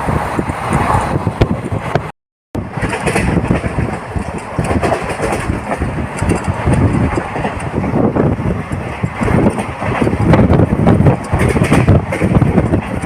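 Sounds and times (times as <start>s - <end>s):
train rumbling and rattling: 0.0s - 13.0s
wind noise on microphone: 0.0s - 13.0s.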